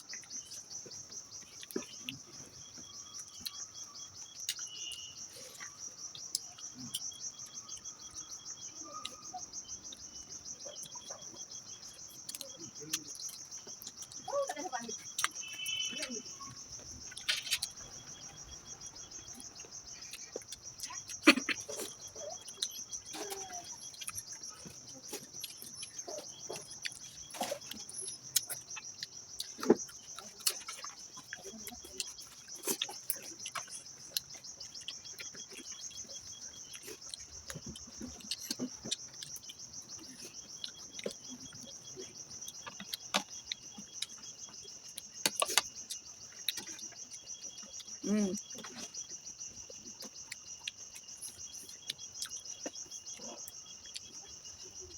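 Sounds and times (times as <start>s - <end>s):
chewing and food handling clicks: 0.0s - 54.9s
insects chirring: 0.0s - 54.9s.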